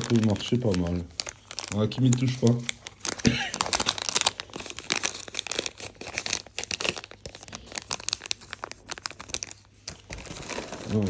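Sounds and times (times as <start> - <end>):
plastic packets crinkling: 0.0 - 11.0
plastic tearing: 0.0 - 11.0.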